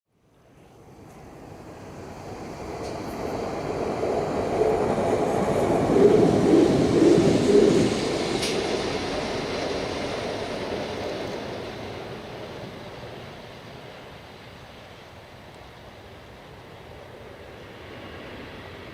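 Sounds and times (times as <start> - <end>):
freight train passing: 0.2 - 18.9.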